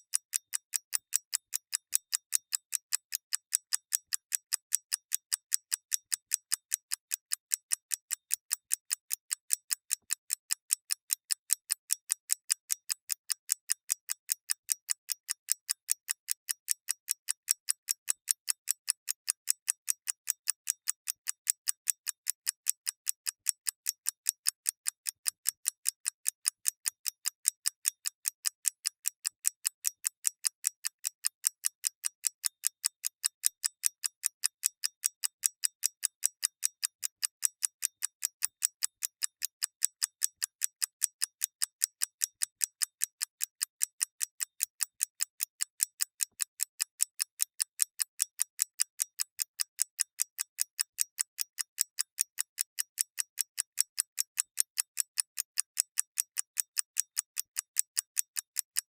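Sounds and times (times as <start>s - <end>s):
clockwork mechanism ticking: 0.2s - 54.7s.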